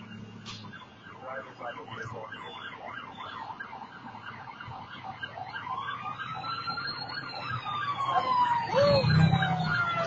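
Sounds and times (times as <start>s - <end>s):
siren wailing: 0.0s - 10.0s
siren yelping: 0.0s - 10.0s.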